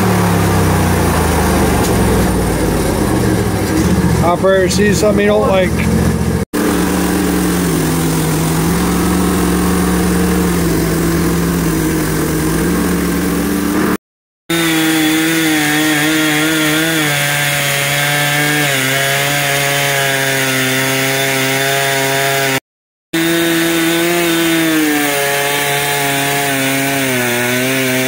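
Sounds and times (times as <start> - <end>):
chainsaw cutting log: 0.0 - 22.6, 23.2 - 28.0
small gas engine running: 0.0 - 22.6, 23.2 - 28.0.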